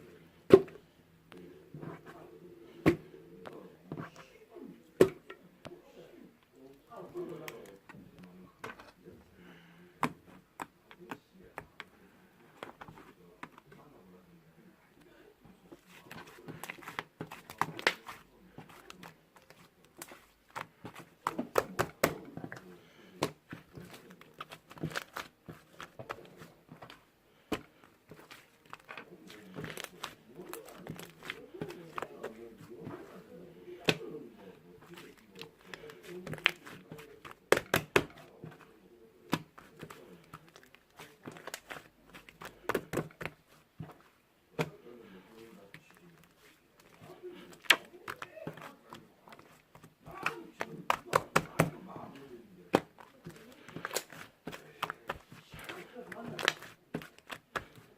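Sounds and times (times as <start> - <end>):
objects being handled: 10.0 - 13.9, 15.4 - 57.9.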